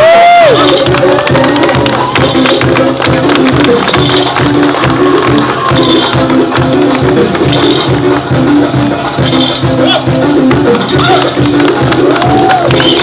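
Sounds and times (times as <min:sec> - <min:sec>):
percussion-led music: 0:00.0 - 0:13.0.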